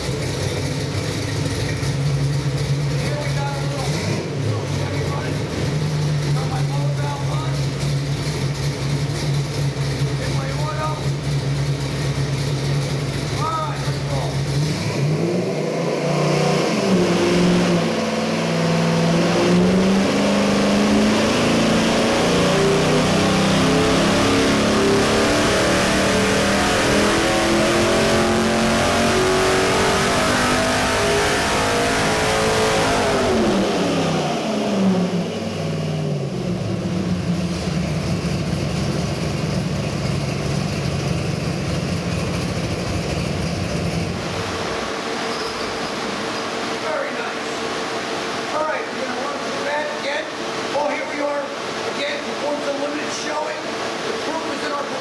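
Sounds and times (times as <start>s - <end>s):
vee-eight engine revving under load: 0.0s - 55.0s.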